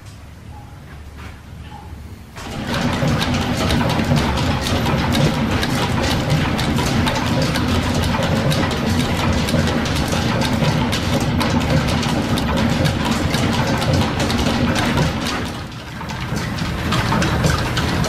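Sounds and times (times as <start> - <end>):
low machinery rumble: 0.0 - 18.0
milling machine clattering: 2.4 - 18.0.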